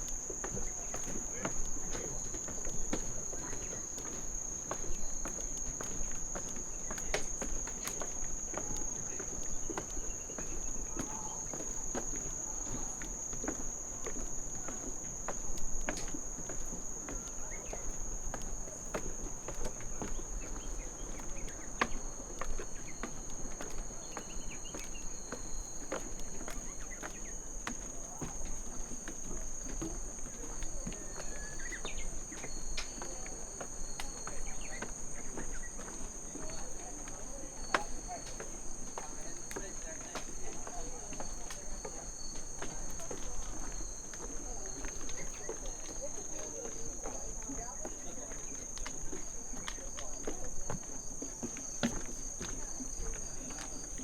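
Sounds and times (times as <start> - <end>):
high-pitched insect chorus: 0.0 - 54.0
soft footsteps on a trail: 0.0 - 54.0.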